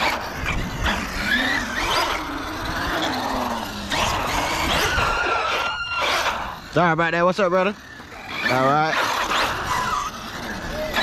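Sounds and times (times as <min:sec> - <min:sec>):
electric motor whining: 0:00.0 - 0:11.0
tyres rolling on concrete: 0:00.0 - 0:11.0.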